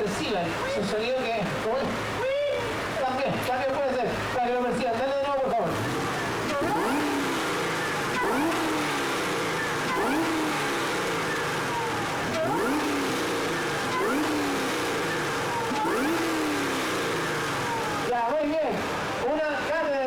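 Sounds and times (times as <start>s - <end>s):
car engine revving: 0.0s - 20.0s
supercharger whine: 0.0s - 20.0s.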